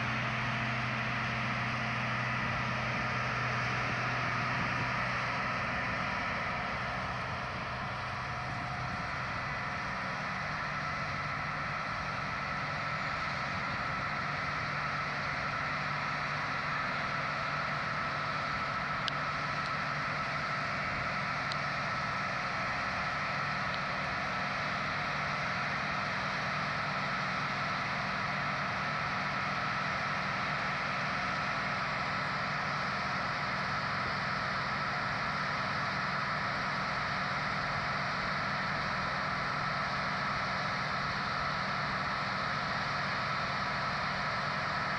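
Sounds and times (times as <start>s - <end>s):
combine harvester engine hum: 0.0s - 44.9s
high machinery whine: 0.0s - 44.9s.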